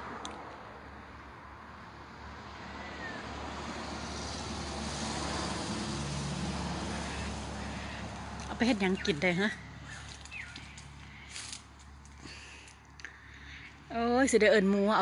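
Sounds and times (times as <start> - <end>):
passing vehicle rushing: 0.0 - 12.1.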